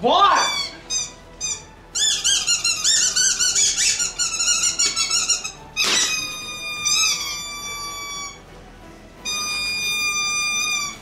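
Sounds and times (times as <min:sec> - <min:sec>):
rubber chicken toy squeaking: 0:00.3 - 0:08.5, 0:09.2 - 0:11.0.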